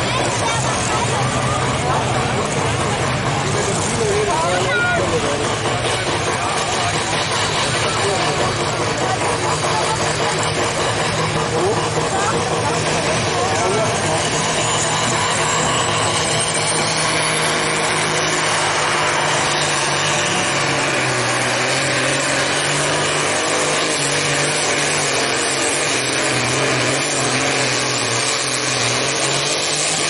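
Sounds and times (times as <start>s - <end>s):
diesel tractor engine at full throttle: 0.0s - 30.0s.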